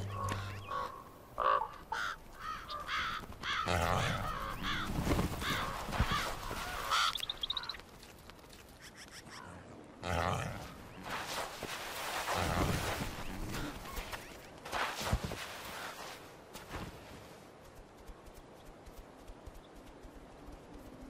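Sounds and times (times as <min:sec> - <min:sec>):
animals scuffling: 0:00.0 - 0:09.3, 0:10.7 - 0:21.0.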